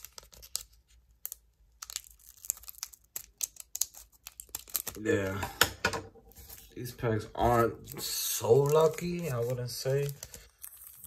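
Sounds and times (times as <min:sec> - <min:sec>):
foil wrapper crinkling: 0:00.0 - 0:05.4, 0:06.3 - 0:11.0.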